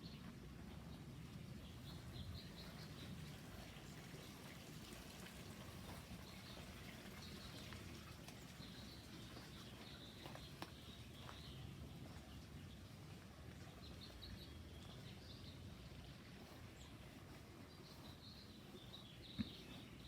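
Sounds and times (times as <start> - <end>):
faint bird chirping: 0.0 - 4.6, 8.4 - 20.0
low steady rumble: 0.0 - 20.0.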